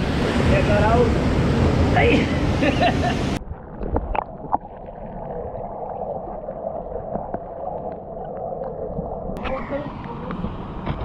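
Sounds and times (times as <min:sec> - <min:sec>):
muffled underwater waterfall rushing: 0:00.0 - 0:10.8.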